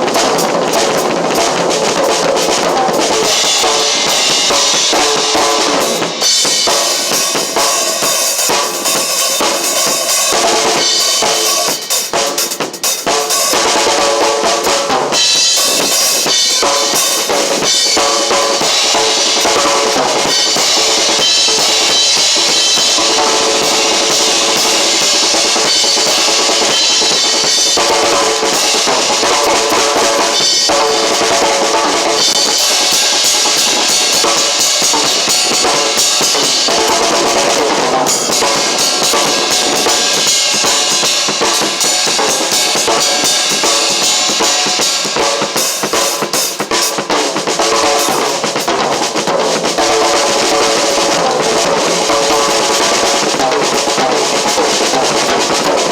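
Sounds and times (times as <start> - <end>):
drum kit playing: 0.0 - 55.9
music: 0.0 - 55.9.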